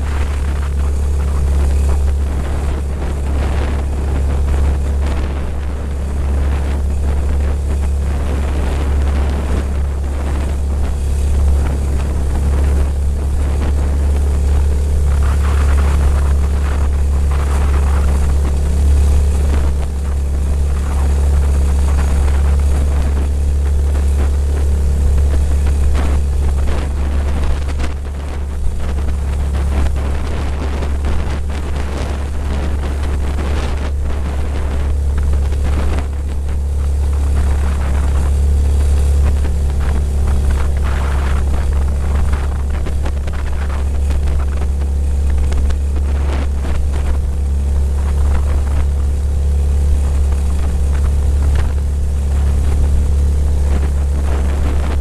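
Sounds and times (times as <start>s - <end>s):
kayak engine humming: 0.0s - 55.0s
water rushing: 0.0s - 55.0s
wind noise on microphone: 0.0s - 55.0s.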